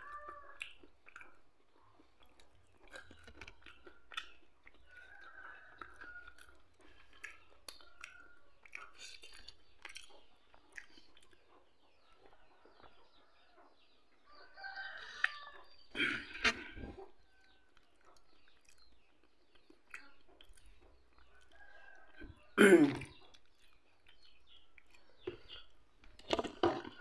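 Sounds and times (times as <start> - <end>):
person chewing: 0.0 - 11.6, 15.1 - 27.0.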